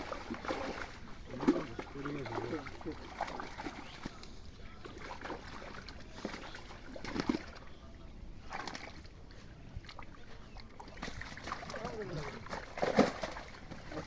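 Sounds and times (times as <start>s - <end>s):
pond water sloshing and splashing: 0.0s - 14.0s.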